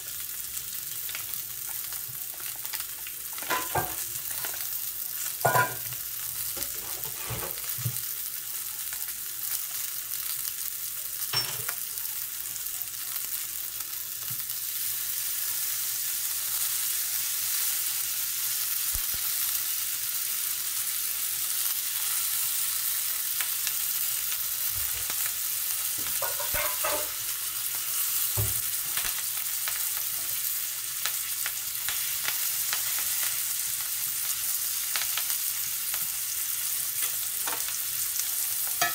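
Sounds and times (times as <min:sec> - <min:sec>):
steak sizzling in a skillet: 0:00.0 - 0:38.9.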